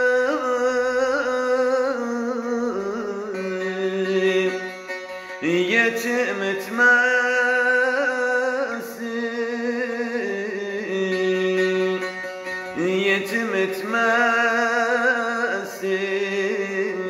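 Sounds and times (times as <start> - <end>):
long-necked lute folk melody: 0.0 - 17.0.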